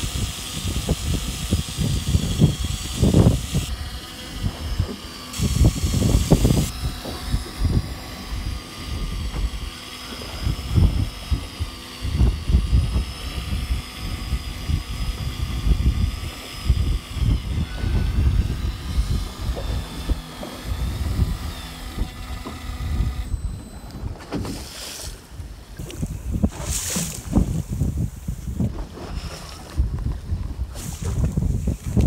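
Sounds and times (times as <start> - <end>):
electric fishing reel motor whining: 0.0 - 25.1, 25.8 - 32.0
wind buffeting microphone: 0.0 - 32.0.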